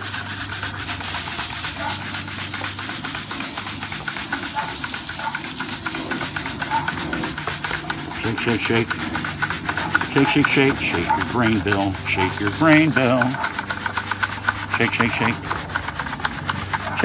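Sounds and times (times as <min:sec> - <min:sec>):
grain pouring into water: 0:00.0 - 0:16.8.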